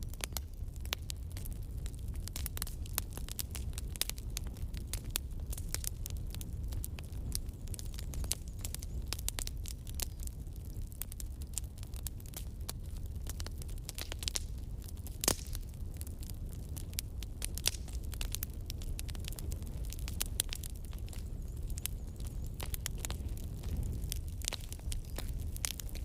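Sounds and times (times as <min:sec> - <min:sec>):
logs crackling in fireplace: 0:00.0 - 0:26.0
low rumble of flames: 0:00.0 - 0:26.0.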